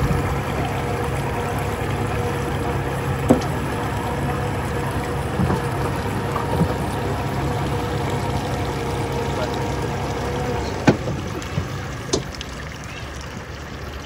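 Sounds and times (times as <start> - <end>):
outboard motors running: 0.0 - 14.0.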